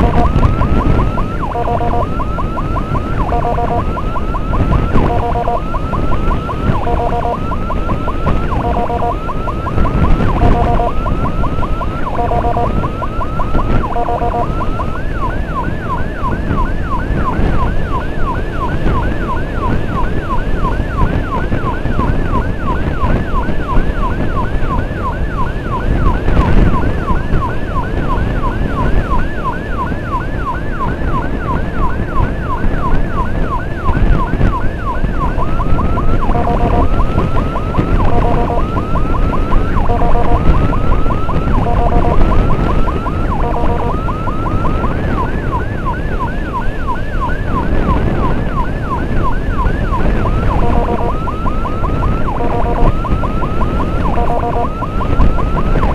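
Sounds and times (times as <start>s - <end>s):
emergency siren yelping: 0.0s - 55.9s
road noise: 0.0s - 55.9s.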